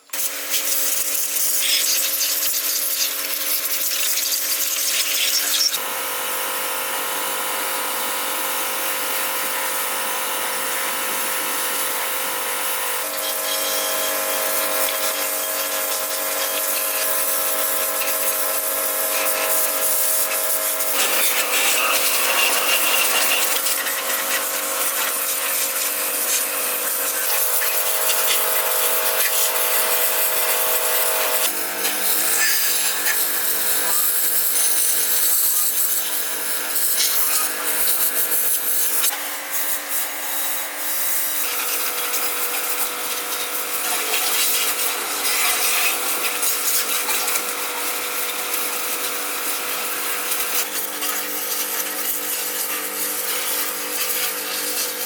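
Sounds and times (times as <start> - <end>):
electric power tool humming: 0.0 - 55.0.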